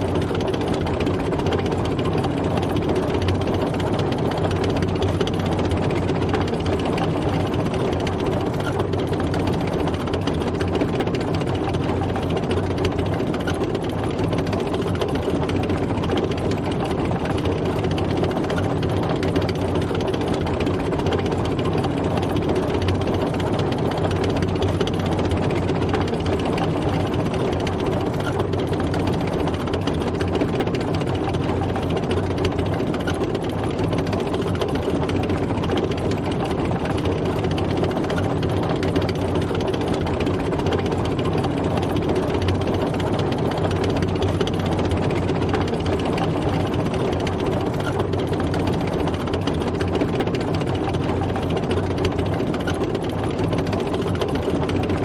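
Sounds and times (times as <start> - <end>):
tank engine droning: 0.0 - 55.0.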